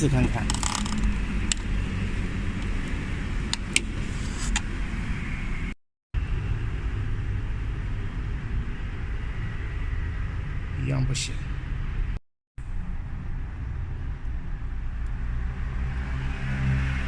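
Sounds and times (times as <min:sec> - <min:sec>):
steady low rumble: 0:00.0 - 0:15.6.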